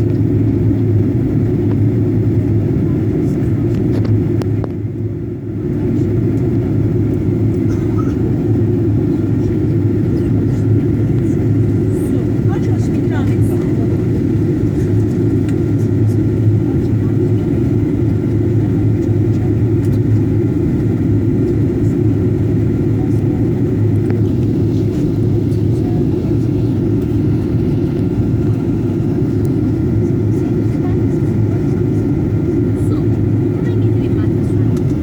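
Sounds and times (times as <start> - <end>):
airliner cabin engine rumble: 0.0 - 35.0.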